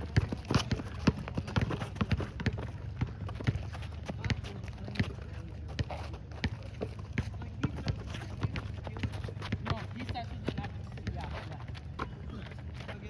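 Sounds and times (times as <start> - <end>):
footsteps on hard court: 0.0 - 13.0.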